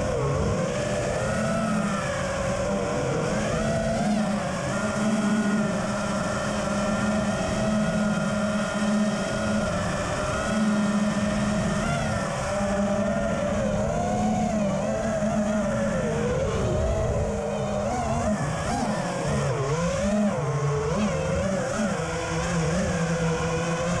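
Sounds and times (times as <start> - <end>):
prop wash rush: 0.0 - 24.0
quadcopter motors whining: 0.0 - 24.0.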